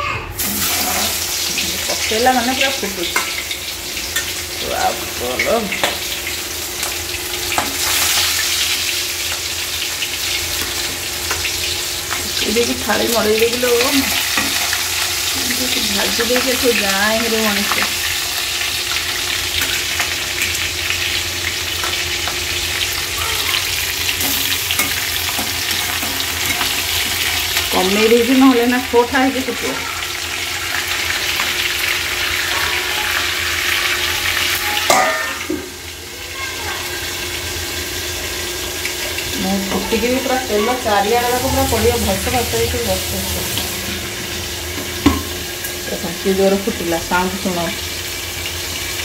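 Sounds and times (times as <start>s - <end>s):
fish sizzling in hot oil: 0.4s - 49.0s.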